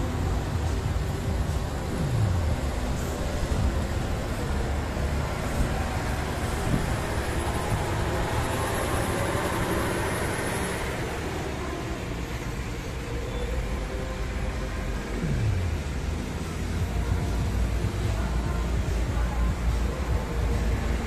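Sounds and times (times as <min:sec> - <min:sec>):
bus diesel engine under load: 0:00.0 - 0:21.0
traffic: 0:00.0 - 0:21.0.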